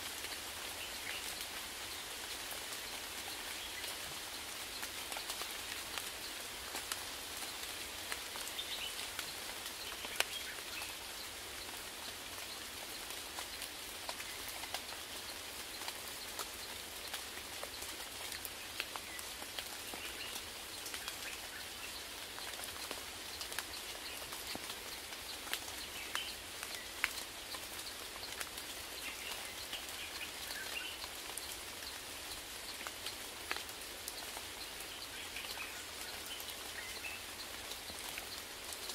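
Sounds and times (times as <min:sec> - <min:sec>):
raindrops ticking close by: 0:00.0 - 0:38.9
steady rain falling: 0:00.0 - 0:38.9.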